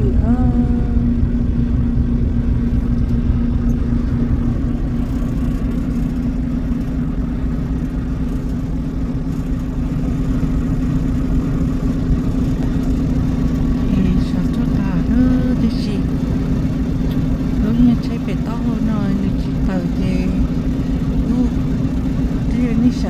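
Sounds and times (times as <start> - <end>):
truck engine drone: 0.0 - 23.0.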